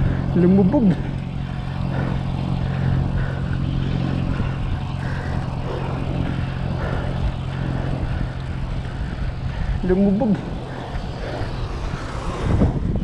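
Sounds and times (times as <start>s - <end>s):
road and wind noise: 0.0s - 13.0s
traffic engine hum: 0.0s - 13.0s.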